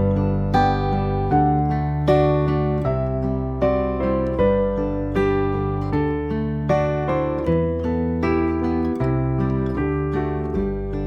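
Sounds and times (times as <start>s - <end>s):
acoustic guitar melody: 0.0s - 11.0s.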